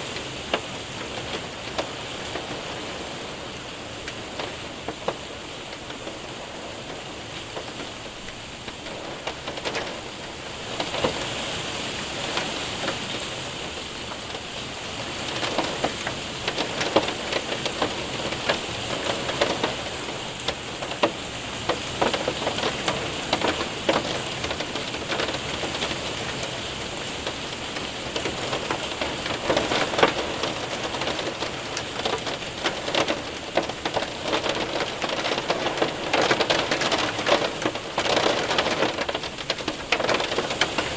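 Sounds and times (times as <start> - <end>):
hailstones ticking on window: 0.0 - 40.9
rain hissing: 0.0 - 40.9.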